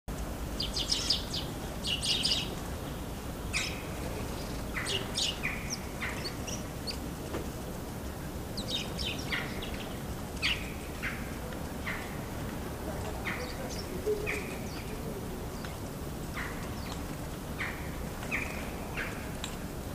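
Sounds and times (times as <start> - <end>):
songbirds chirping: 0.1 - 19.9.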